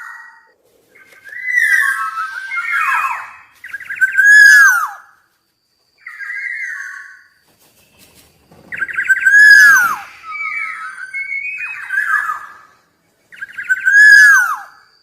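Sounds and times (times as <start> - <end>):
bird singing whistled notes: 0.0 - 5.1, 6.0 - 15.0.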